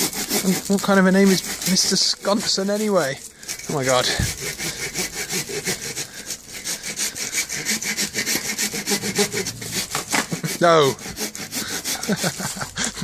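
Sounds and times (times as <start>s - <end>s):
hand saw cutting wood: 0.0s - 13.0s.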